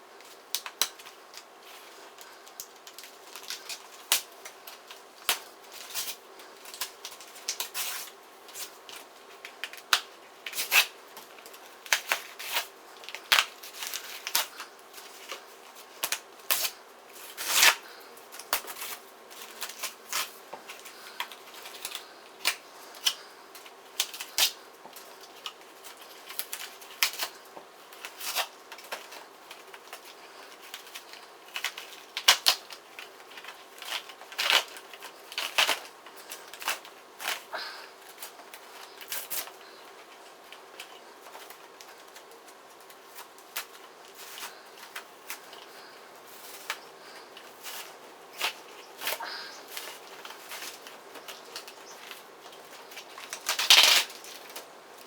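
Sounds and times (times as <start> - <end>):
filter tearing and crinkling: 0.2 - 55.0.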